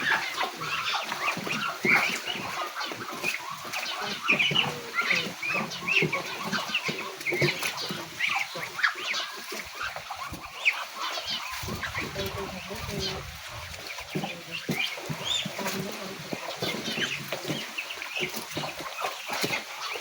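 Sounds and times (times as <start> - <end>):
ducks calling: 0.0 - 20.0.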